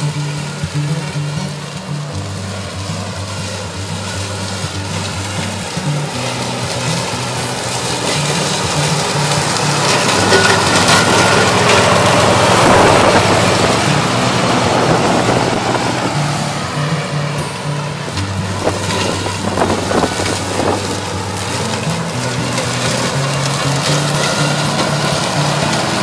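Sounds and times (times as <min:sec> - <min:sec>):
riding mower cutting grass: 0:00.0 - 0:26.0.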